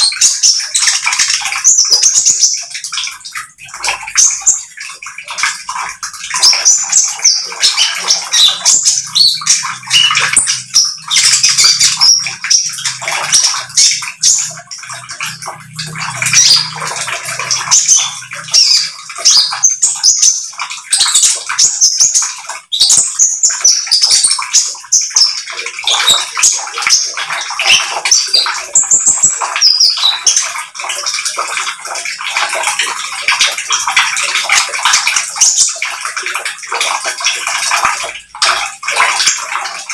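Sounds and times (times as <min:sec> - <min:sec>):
bird chirping and trilling: 0:00.0 - 0:36.2.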